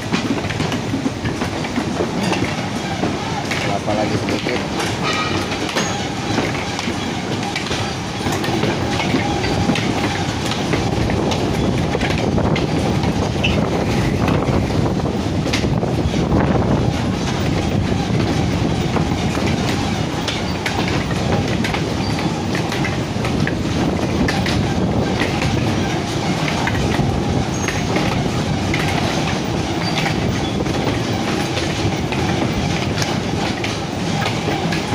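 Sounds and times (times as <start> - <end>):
machinery rumble: 0.0 - 34.9
mechanical clatter with knocks: 0.0 - 34.9.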